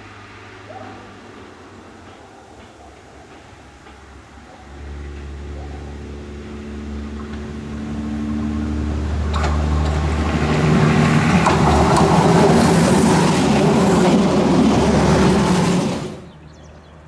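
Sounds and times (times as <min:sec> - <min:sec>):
diesel railbus engine under load: 0:00.0 - 0:16.9
wheel and rail noise with clicks: 0:00.7 - 0:05.9, 0:06.9 - 0:16.3.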